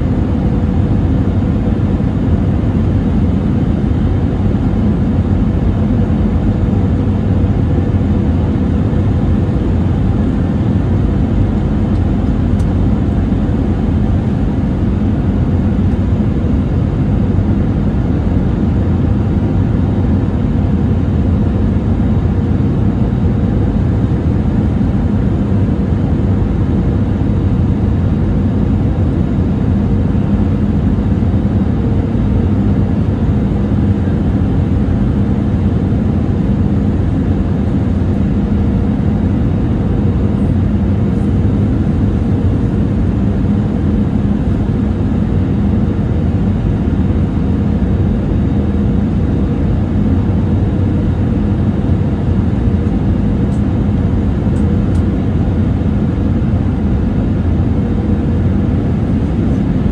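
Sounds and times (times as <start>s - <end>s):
faint steady hum: 0.0s - 59.9s
jet engine low rumble in cabin: 0.0s - 59.9s.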